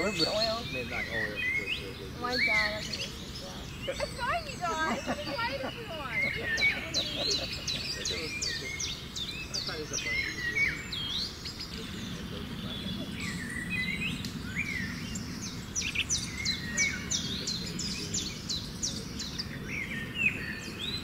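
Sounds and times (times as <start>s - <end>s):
birds chirping and calling: 0.0s - 21.0s
low background hum: 0.0s - 21.0s.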